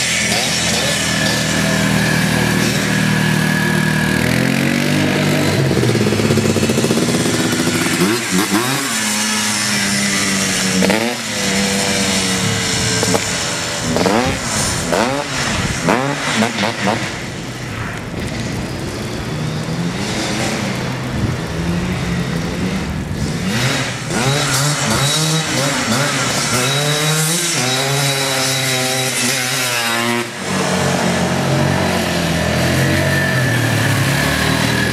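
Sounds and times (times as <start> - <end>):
atv engines revving: 0.0 - 34.9
quad engine steady note: 0.0 - 34.9.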